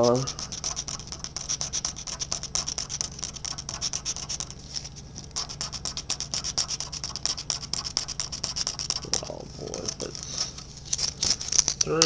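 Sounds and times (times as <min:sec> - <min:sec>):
scratching lottery ticket: 0:00.0 - 0:12.0.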